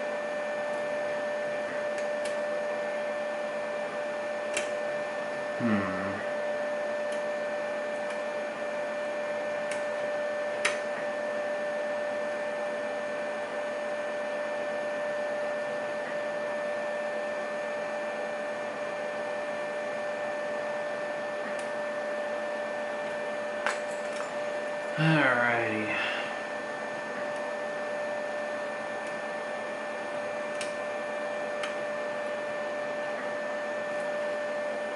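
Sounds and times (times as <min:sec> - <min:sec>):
steady hum with pitched tone: 0:00.0 - 0:13.4, 0:19.8 - 0:34.9.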